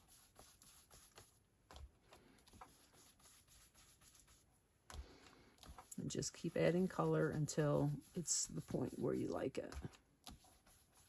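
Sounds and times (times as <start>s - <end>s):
brush swishing on card: 0.0s - 1.4s, 2.4s - 11.0s.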